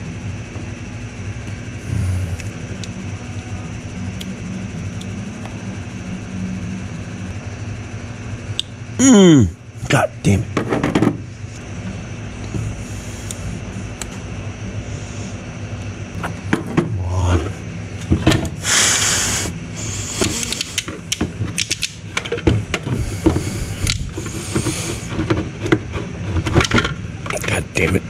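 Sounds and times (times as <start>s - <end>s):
low hum: 0.0s - 27.3s.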